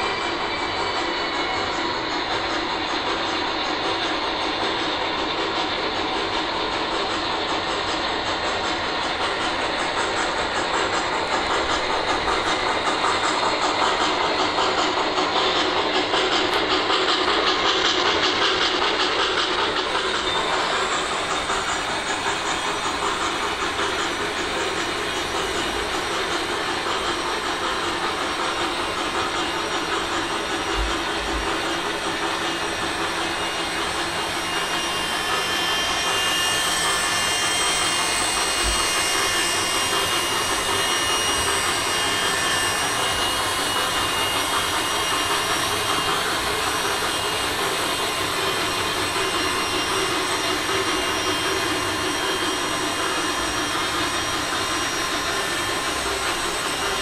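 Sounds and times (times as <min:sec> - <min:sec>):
toy helicopter rotor whine: 0:00.0 - 0:57.0.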